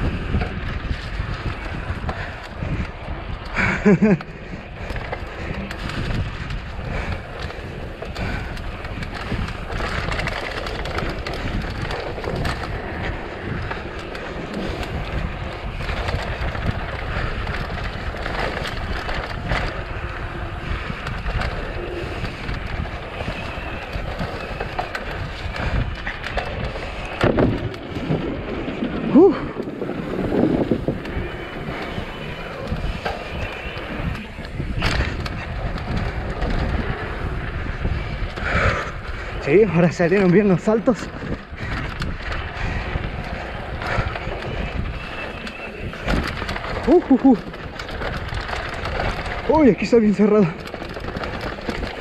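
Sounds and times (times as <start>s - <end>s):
bike rattling over bumps: 0.0s - 52.0s
bike tyres rolling on dirt: 0.0s - 52.0s
wind buffeting microphone: 0.0s - 52.0s.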